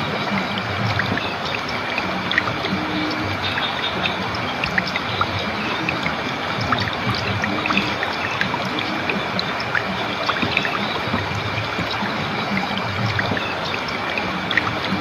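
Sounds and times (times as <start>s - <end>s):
plinks of drops and bubbles: 0.0s - 15.0s
water trickling and babbling: 0.0s - 15.0s.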